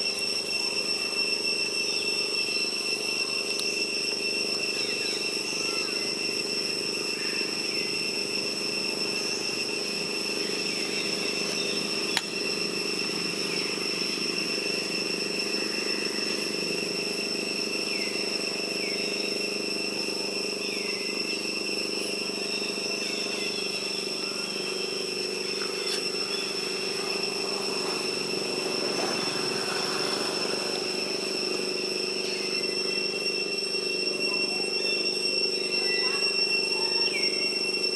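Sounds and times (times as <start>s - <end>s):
high-pitched insect drone: 0.0s - 37.9s.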